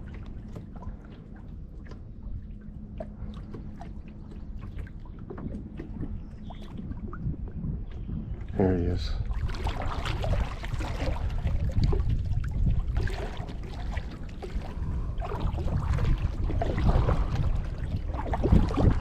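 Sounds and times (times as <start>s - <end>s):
paddle splashing in water: 0.0s - 7.2s, 9.2s - 19.0s
gurgling water wash: 0.0s - 19.0s.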